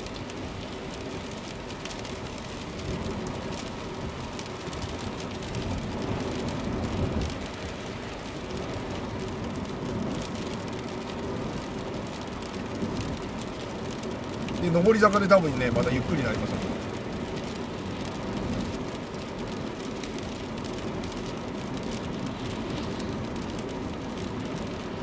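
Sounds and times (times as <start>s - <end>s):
car engine hum: 0.0s - 25.0s
tyres hissing on wet asphalt: 0.0s - 25.0s.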